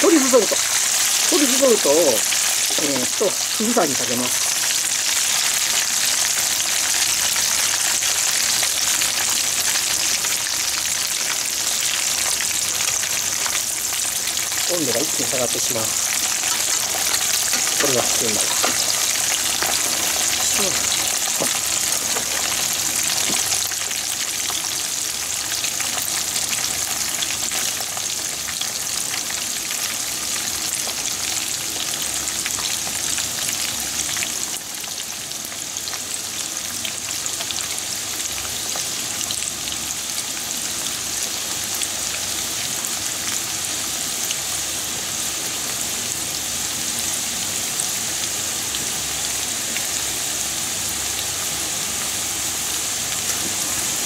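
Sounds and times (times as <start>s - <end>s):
fries sizzling in hot oil: 0.0s - 54.0s.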